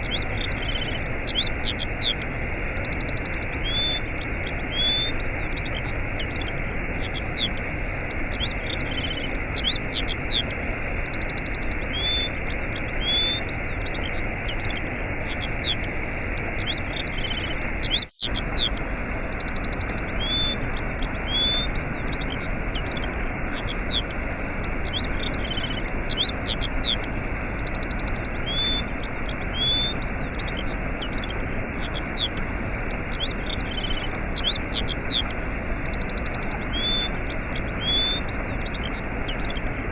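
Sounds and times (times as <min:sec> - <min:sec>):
rushing waterfall: 0:00.0 - 0:39.9
small birds chirping: 0:00.0 - 0:39.9.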